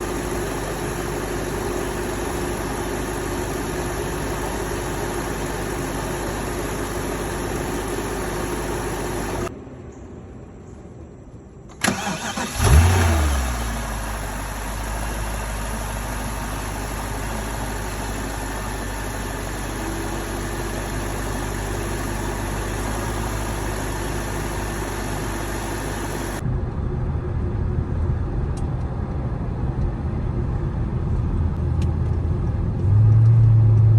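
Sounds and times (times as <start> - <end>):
car engine starting and idling: 0.0 - 9.5, 11.6 - 33.9
rough low engine rumble: 0.0 - 33.9.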